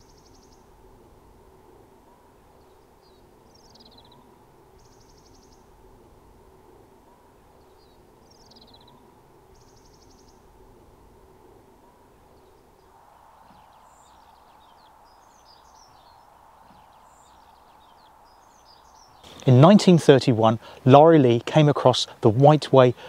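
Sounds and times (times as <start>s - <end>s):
songbird singing buzzy trill: 0.0s - 0.8s, 1.9s - 5.8s, 6.6s - 10.6s, 11.7s - 22.0s
faint steady hum: 0.0s - 23.0s.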